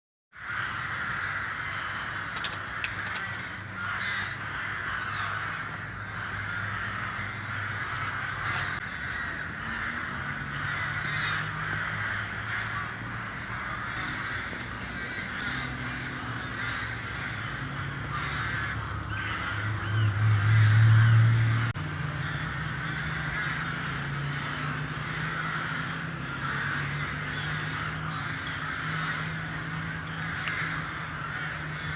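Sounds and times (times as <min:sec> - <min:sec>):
ravens calling: 0:00.4 - 0:31.9.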